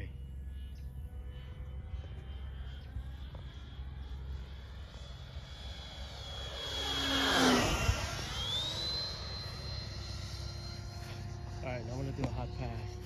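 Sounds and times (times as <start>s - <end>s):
electric jet fan whine: 0.0s - 13.0s.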